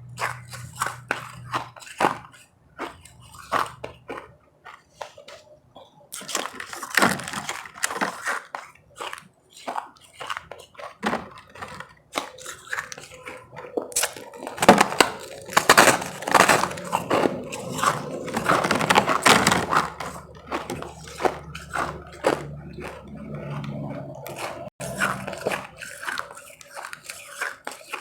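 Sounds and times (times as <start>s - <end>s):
ice crunching being chewed: 0.0s - 28.0s.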